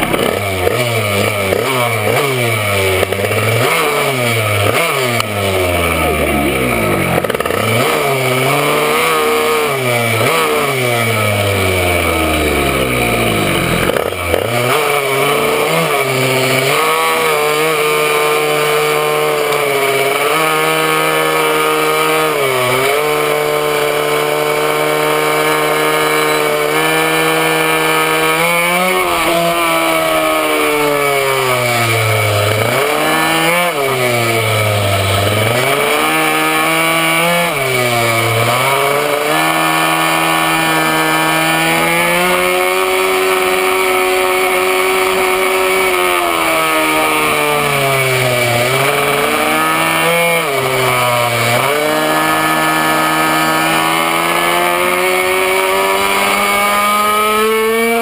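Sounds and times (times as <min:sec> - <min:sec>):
small two-stroke engine revving: 0:00.0 - 0:58.0.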